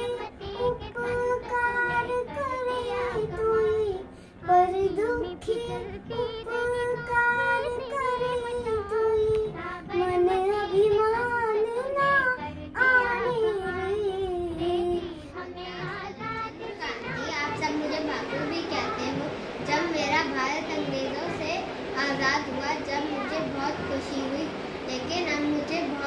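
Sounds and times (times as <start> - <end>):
child singing: 0.0 - 26.0.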